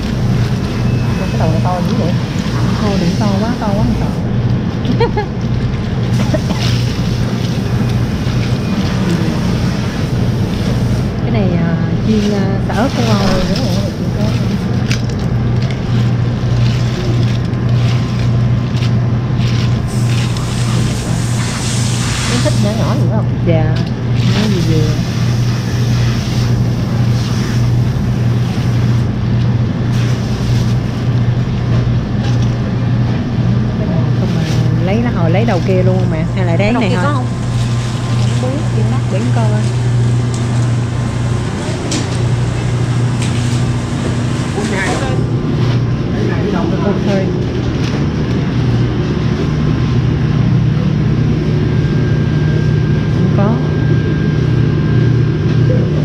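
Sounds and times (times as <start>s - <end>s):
grocery store background noise: 0.0s - 56.0s
low hum: 0.0s - 56.0s.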